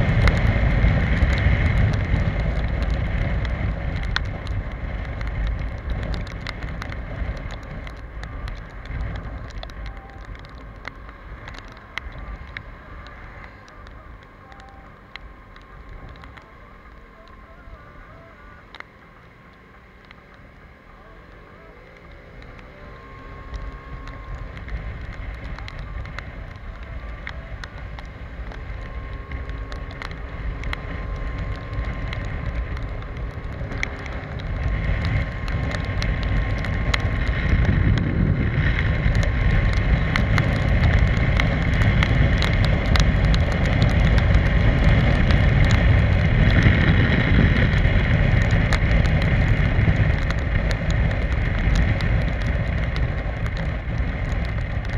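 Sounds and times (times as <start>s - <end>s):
faint whine: 0.0s - 54.9s
wind rushing over microphone: 0.0s - 54.9s.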